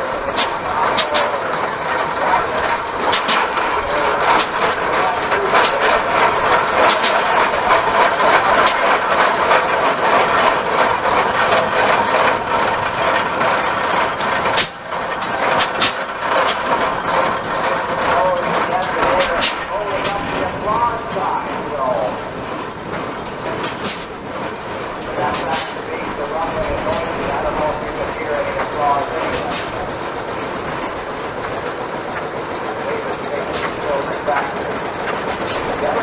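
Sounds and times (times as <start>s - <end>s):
exhaust popping: 0.0s - 36.0s
steady dense noise: 0.0s - 36.0s
tractor engine running slowly: 0.0s - 36.0s.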